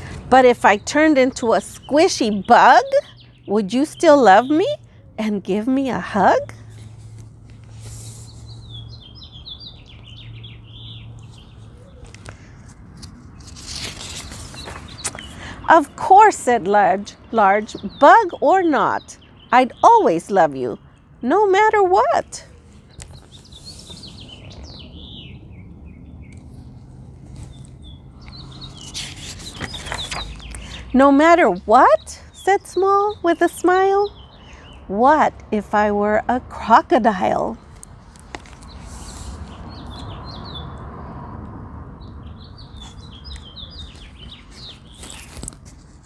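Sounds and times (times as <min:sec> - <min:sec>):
small birds chirping: 0:00.0 - 0:35.9, 0:36.6 - 0:41.0, 0:42.0 - 0:46.0.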